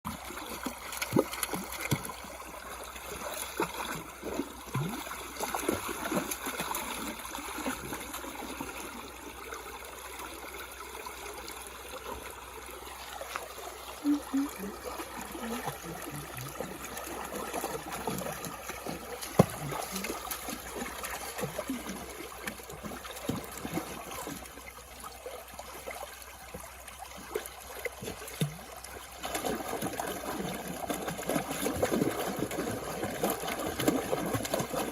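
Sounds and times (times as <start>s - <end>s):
water trickling and flowing: 0.1s - 34.9s.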